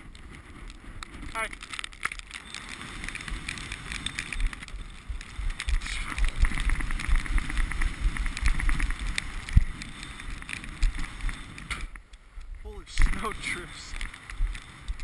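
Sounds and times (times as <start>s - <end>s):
crackles: 0.0s - 15.0s
wind buffeting microphone: 0.0s - 15.0s.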